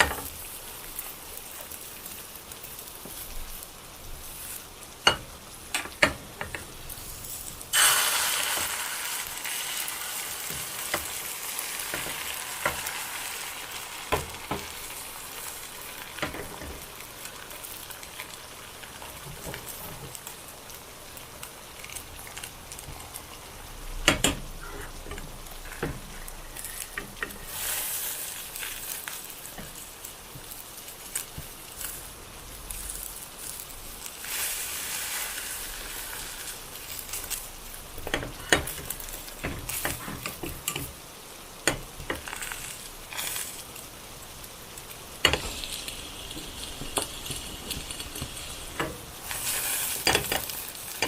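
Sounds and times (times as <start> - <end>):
food sizzling in a frying pan: 0.0 - 51.0.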